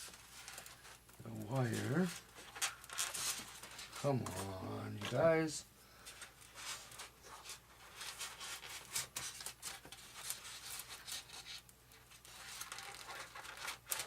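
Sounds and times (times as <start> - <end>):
wire scratching and rustling: 0.0 - 14.0.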